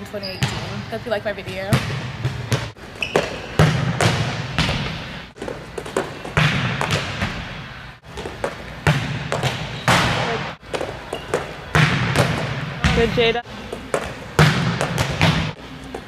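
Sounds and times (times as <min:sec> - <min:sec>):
ball smacking gym floor: 0:01.5 - 0:16.0
hand slapping volleyball: 0:01.6 - 0:07.4, 0:08.1 - 0:15.6.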